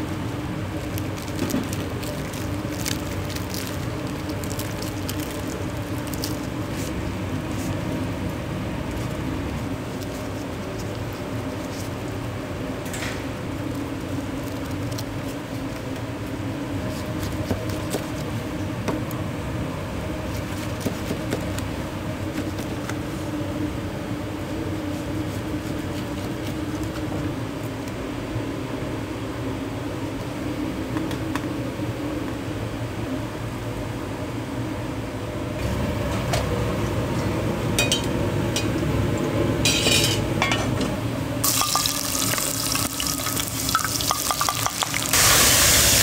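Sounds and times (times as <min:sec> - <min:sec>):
kitchen ventilation hum: 0:00.0 - 0:46.0.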